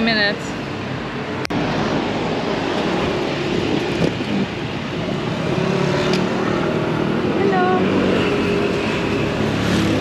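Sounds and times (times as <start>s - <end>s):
passing vehicle noise: 0.0s - 10.0s.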